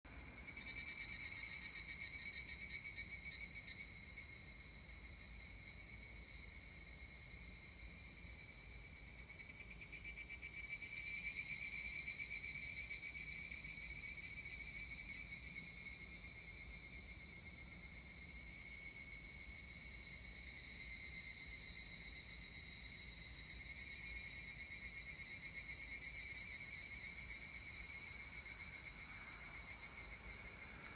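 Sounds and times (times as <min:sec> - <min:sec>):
cicadas trilling in chorus: 0:00.3 - 0:30.9.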